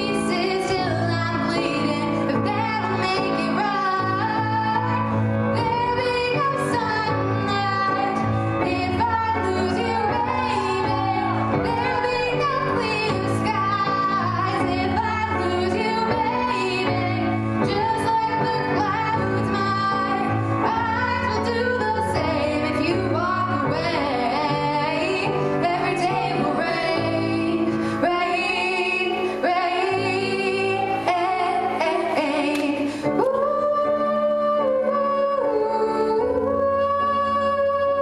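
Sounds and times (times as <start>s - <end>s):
girl singing into a microphone: 0.0s - 38.0s.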